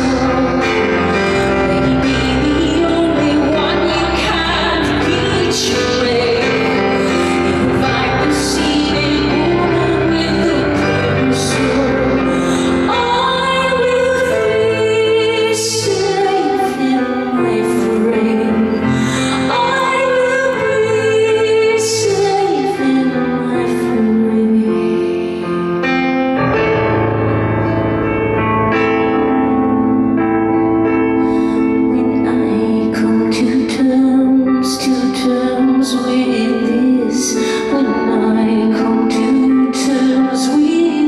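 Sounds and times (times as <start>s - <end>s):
woman singing: 0.0s - 25.7s, 31.2s - 41.0s
piano playing: 0.0s - 41.0s.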